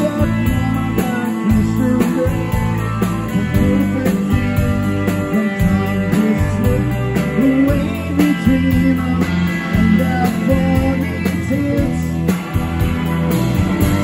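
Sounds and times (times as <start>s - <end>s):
bass notes: 0.0s - 14.0s
drum beat: 0.0s - 14.0s
electric guitar: 0.0s - 14.0s.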